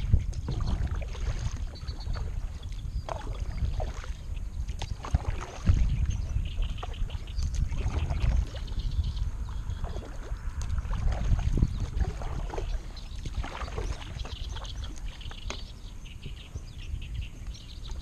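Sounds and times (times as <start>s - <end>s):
paddle splashes and drips: 0.0s - 16.3s, 17.7s - 18.0s
steady low rumble: 0.0s - 18.0s.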